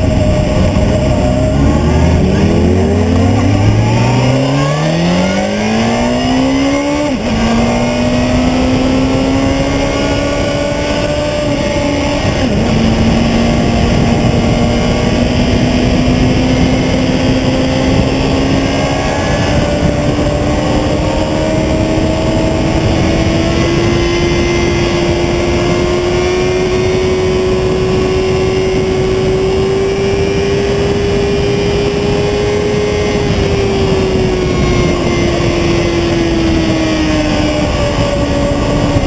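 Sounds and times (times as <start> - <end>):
motorcycle engine accelerating: 0.0 - 39.0
wind rush over microphone: 0.0 - 39.0.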